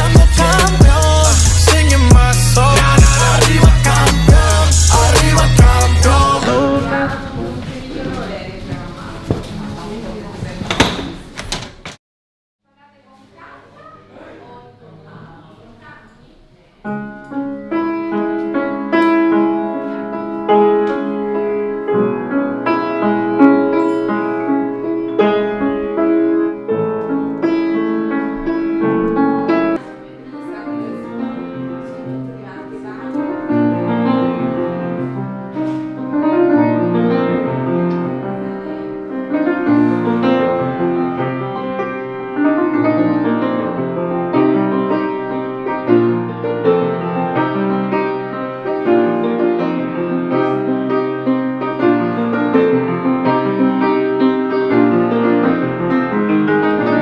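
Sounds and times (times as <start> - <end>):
piano music: 0.0 - 11.5, 16.9 - 57.0.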